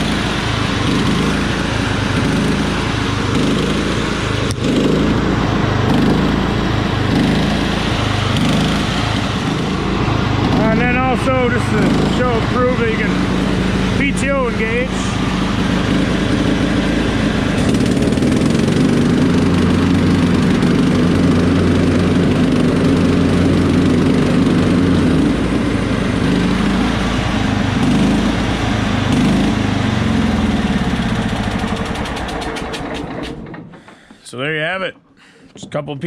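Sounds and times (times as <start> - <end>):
riding mower running: 0.0 - 35.1.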